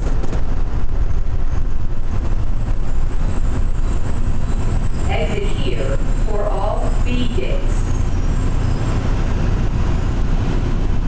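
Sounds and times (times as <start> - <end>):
train running gear rumble: 0.0 - 11.0.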